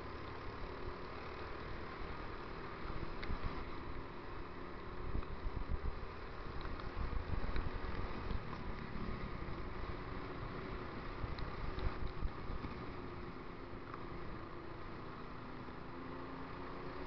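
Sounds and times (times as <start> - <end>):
low wind rumble: 0.0 - 17.0
muffled scooter engine drone: 0.0 - 17.0
tyre noise on wet road: 0.0 - 17.0.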